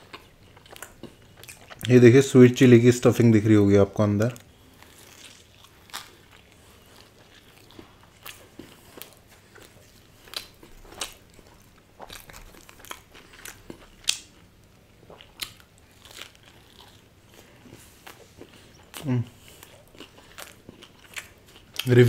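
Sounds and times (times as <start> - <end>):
chewing crunchy pizza: 0.0 - 2.1, 4.2 - 22.0.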